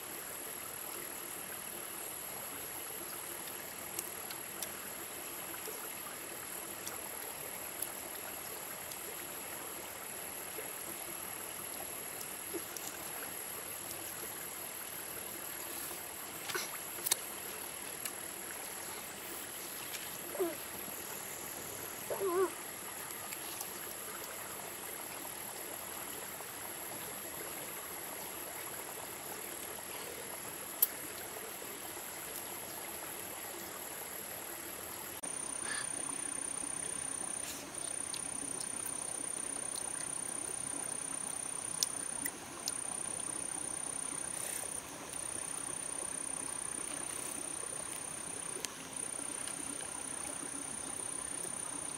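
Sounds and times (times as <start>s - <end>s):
stream water running: 0.0s - 51.9s.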